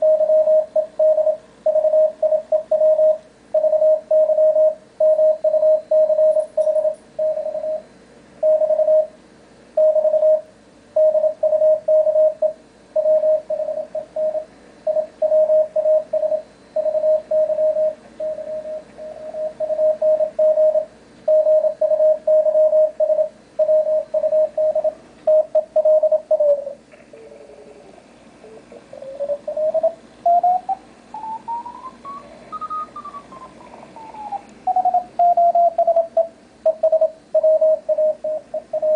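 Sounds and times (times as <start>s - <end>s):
morse code keyed tone: 0.0s - 9.1s, 9.8s - 26.6s, 31.9s - 38.9s.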